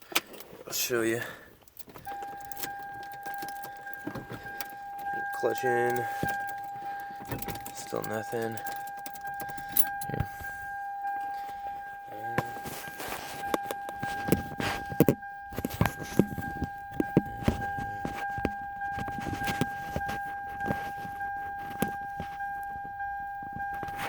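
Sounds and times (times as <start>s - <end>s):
car keys rattling and clicking: 0.0s - 24.0s
steady high tone: 1.9s - 24.0s.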